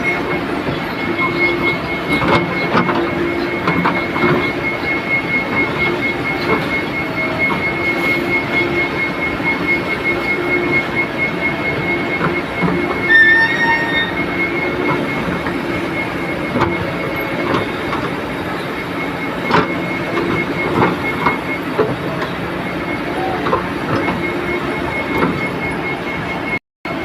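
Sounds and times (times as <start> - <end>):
backhoe diesel engine under load: 0.0 - 27.0
hydraulics working: 0.0 - 27.0
steady high whine: 0.0 - 27.0.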